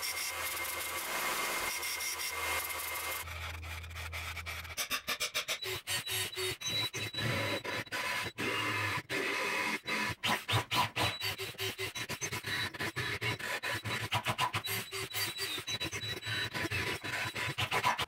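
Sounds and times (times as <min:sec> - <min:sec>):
cordless drill boring through metal: 0:00.0 - 0:03.8, 0:04.7 - 0:18.0.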